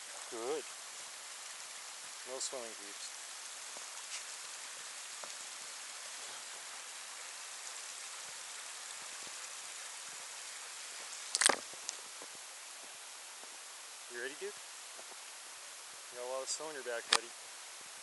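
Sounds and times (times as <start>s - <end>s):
flowing water in creek: 0.0s - 18.0s.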